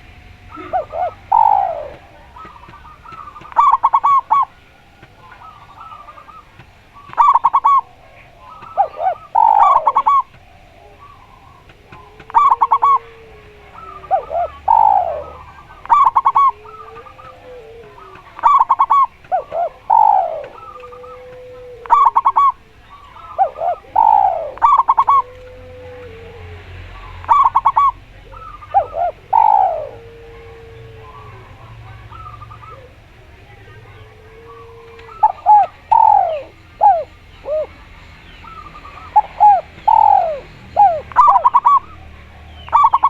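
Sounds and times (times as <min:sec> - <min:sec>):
doves cooing: 0:00.0 - 0:43.0.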